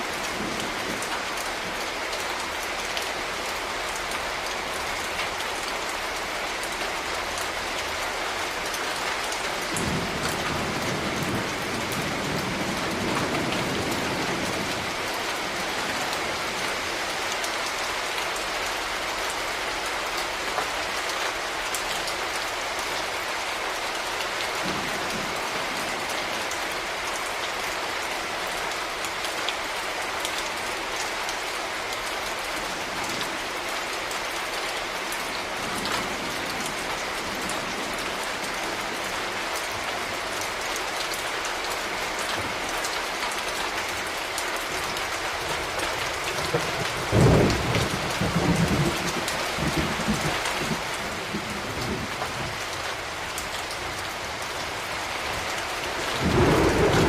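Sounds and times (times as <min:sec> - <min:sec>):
steady rain falling: 0:00.0 - 0:57.0
raindrops ticking on a surface: 0:00.1 - 0:57.0.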